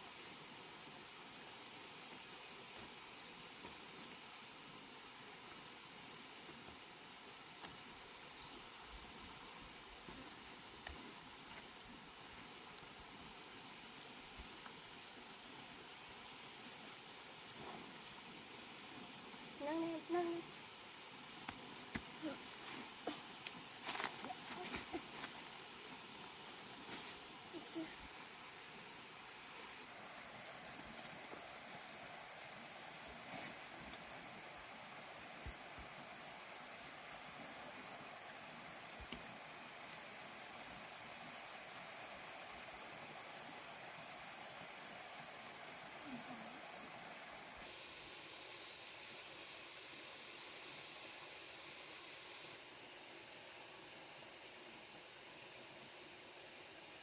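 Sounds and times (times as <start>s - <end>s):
high-pitched outdoor background hiss: 0.0s - 57.0s
insects buzzing: 0.0s - 57.0s.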